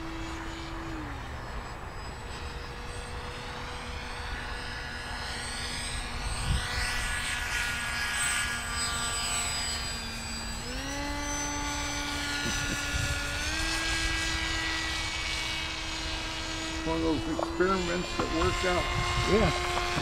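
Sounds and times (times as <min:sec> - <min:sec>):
model jet motors whining: 0:00.0 - 0:20.0.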